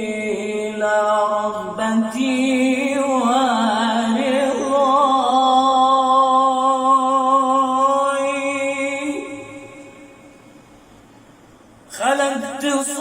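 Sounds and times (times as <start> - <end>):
man singing devotional song: 0.0 - 10.3, 11.9 - 13.0.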